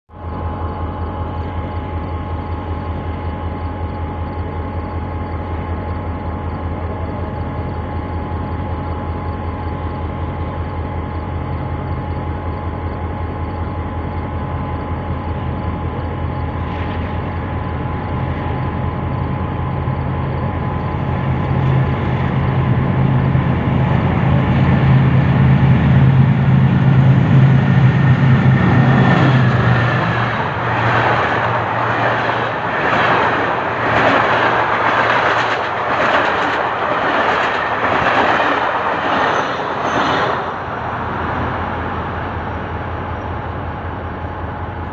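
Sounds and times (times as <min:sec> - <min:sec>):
diesel locomotive engine droning: 0:00.1 - 0:44.9.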